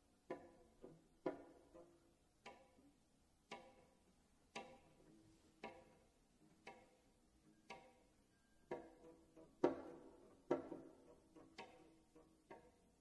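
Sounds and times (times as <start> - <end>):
cello pizzicato notes: 0.0 - 13.0.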